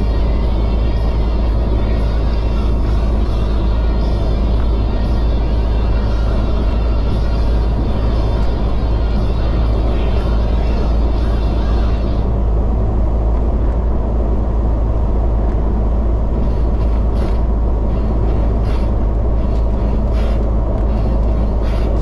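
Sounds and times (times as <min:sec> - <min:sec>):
vehicle driving rumble: 0:00.0 - 0:22.0.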